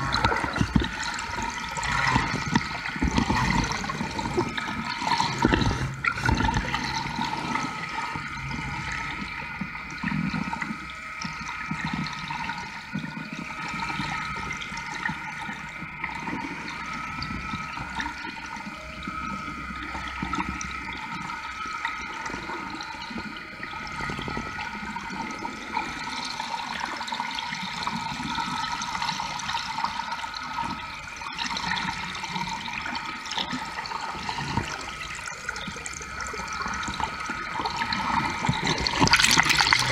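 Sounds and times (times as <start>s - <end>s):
boat machinery humming: 0.0s - 26.6s, 30.3s - 39.9s
water rushing underwater: 0.0s - 39.9s.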